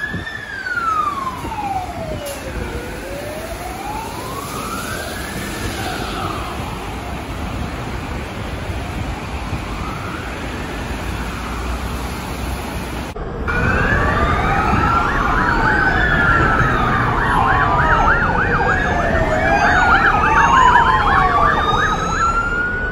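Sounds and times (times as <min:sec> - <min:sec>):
emergency sirens wailing: 0:00.0 - 0:22.9
traffic on wet road: 0:00.0 - 0:22.9.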